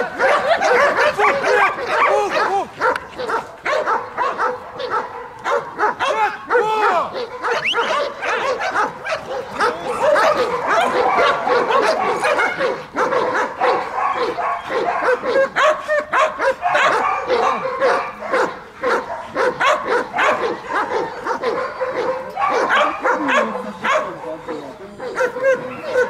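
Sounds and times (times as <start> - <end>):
dog barking rapidly: 0.0 - 26.0
dog yipping: 0.0 - 26.0.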